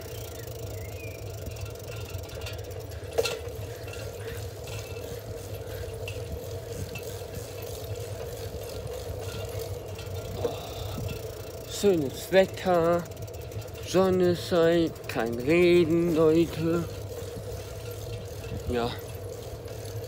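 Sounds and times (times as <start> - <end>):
bicycle tyre and wind noise: 0.0 - 20.0.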